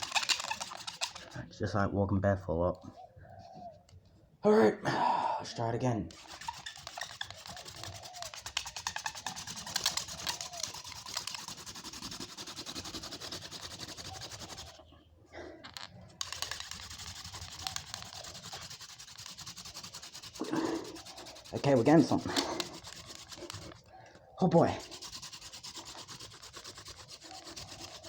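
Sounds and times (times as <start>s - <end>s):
wooden friction rubbing: 0.0s - 1.7s, 6.1s - 14.9s, 15.6s - 28.0s.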